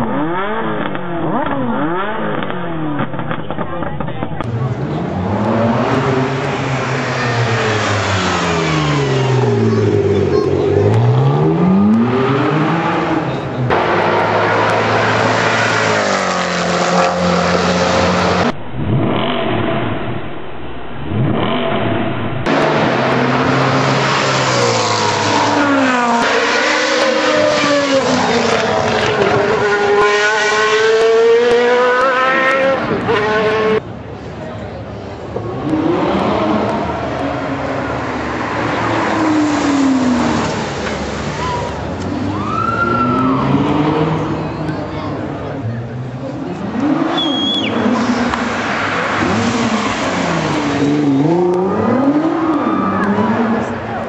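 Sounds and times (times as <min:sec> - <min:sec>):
car engines revving: 0:00.0 - 0:54.0
traffic noise: 0:00.0 - 0:54.0
cars speeding past: 0:04.4 - 0:20.1, 0:21.1 - 0:33.8, 0:35.2 - 0:54.0.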